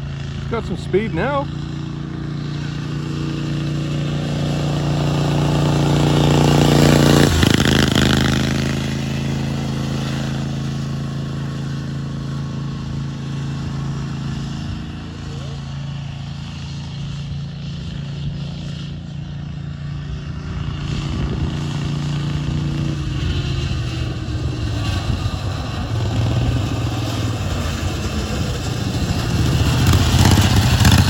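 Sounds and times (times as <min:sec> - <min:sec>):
lawnmower engine running: 0:00.0 - 0:31.0.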